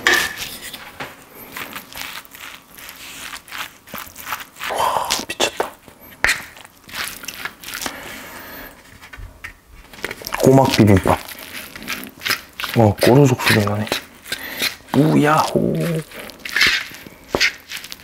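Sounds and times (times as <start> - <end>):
sticky squishing stirring of rice: 0.0 - 9.2, 9.8 - 18.0.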